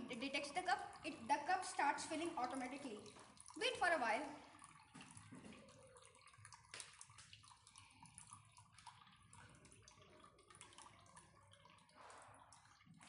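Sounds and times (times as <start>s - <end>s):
small ticks and drips: 0.0s - 13.0s
water trickling into a cup: 0.0s - 13.0s.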